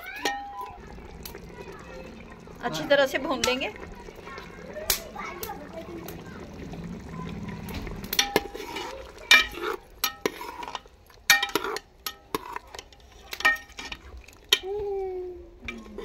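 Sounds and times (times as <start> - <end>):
ladle knocking and scraping pot: 0.0 - 6.2, 6.9 - 14.7
curry frying in oil: 0.0 - 16.0.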